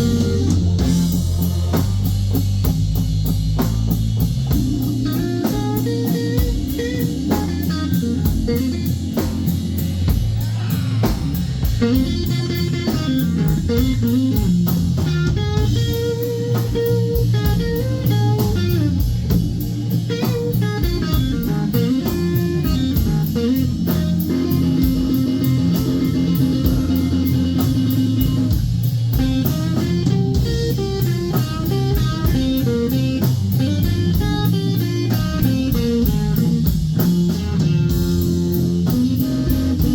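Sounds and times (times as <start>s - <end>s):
electric guitar lead with bent notes: 0.0s - 1.9s, 4.2s - 39.9s
bass guitar: 0.0s - 39.9s
drum kit: 0.0s - 39.9s.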